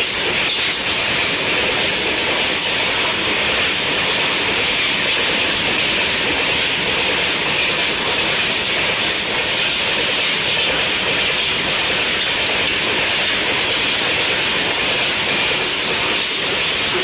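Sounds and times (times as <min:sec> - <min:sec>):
train rushing past on rails: 0:00.0 - 0:17.0.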